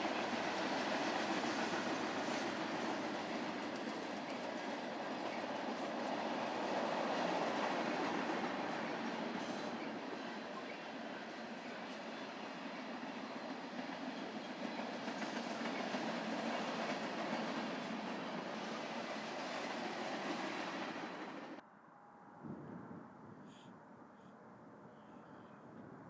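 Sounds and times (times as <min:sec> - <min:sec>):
freight train rolling past: 0:00.0 - 0:21.6.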